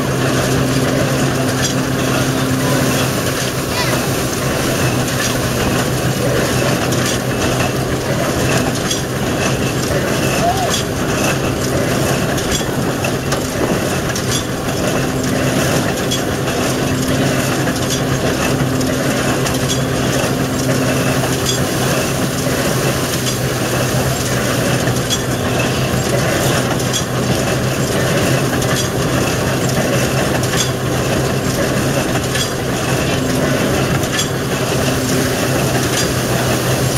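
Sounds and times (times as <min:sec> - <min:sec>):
farm machinery humming and clattering: 0:00.0 - 0:36.9.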